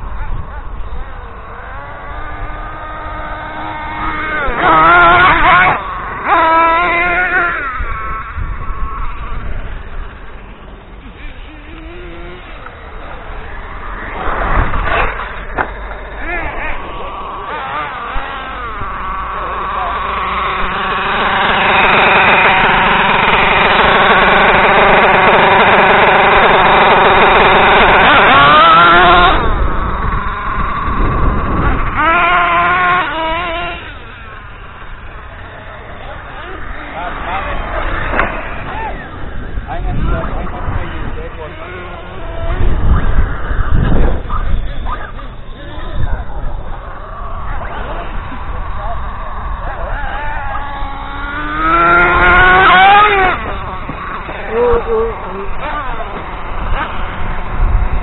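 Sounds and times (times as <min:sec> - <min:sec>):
rc car engine revving: 0:00.0 - 0:58.0.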